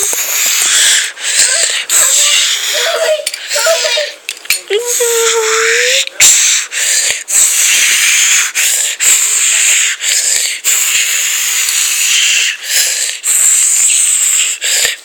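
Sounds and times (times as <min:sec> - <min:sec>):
loud hissing noise: 0:00.0 - 0:03.9, 0:04.8 - 0:15.0.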